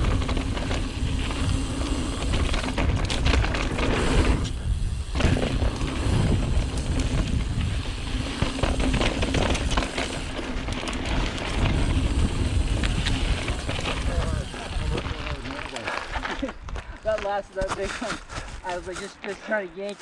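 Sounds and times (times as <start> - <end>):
bike chain and frame rattling: 0.0 - 16.8
wind buffeting microphone: 0.0 - 17.2
bike tyres on dirt: 0.0 - 20.0.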